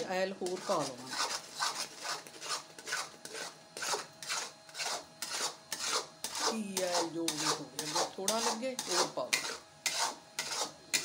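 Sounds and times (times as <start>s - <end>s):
spoon scraping a metal pan: 0.0s - 11.0s.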